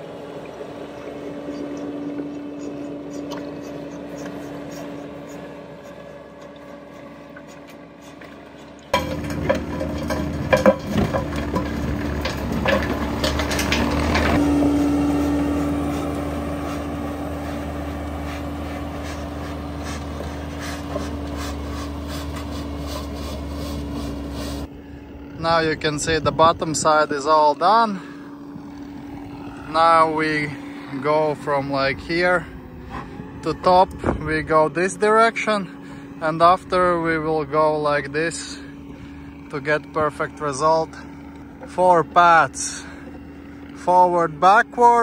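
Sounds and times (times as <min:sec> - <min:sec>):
loader engine running: 0:00.0 - 0:45.0.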